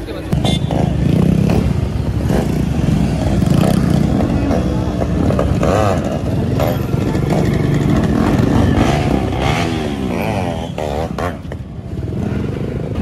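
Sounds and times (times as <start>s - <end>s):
vehicle engine revving: 0.3s - 13.0s.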